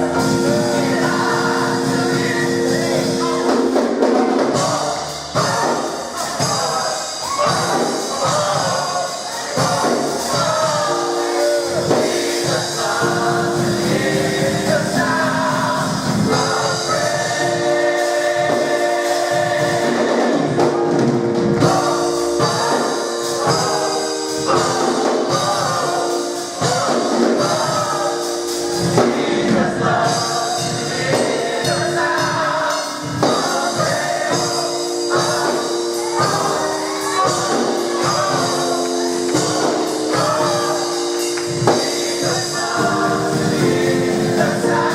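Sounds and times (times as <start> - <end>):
gospel choir singing: 0.0 - 44.9
instrumental backing: 0.0 - 44.9.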